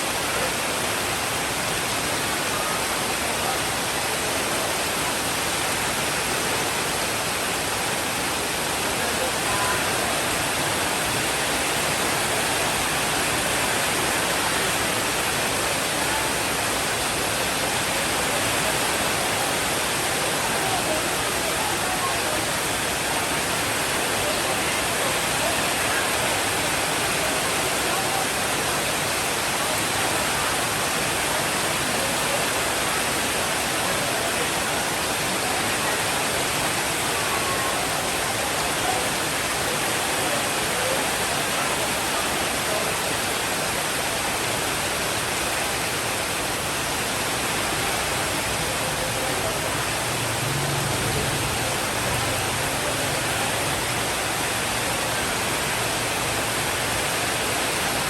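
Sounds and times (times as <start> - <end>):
dense rain hiss: 0.0 - 58.0.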